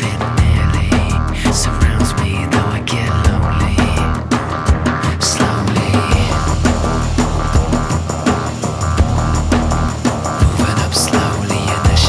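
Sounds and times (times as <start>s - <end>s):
loud music with drum beat: 0.0s - 12.0s
sustained bass: 0.0s - 12.0s.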